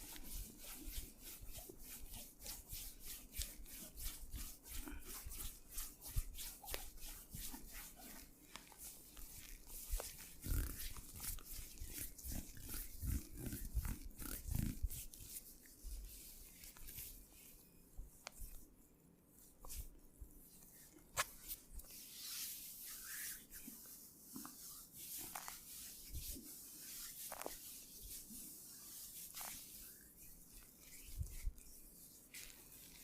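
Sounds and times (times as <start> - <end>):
hands rubbing on skin: 0.0 - 18.7, 19.4 - 33.0.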